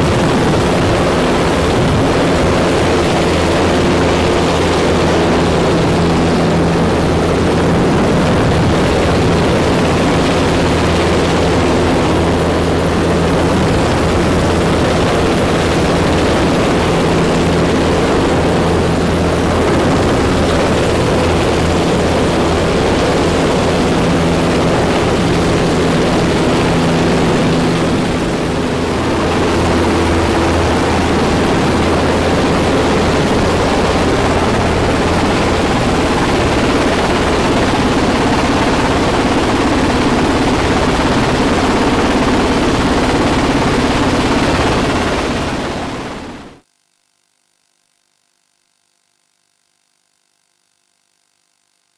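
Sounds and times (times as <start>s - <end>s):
helicopter rotor and engine noise: 0.0s - 46.6s.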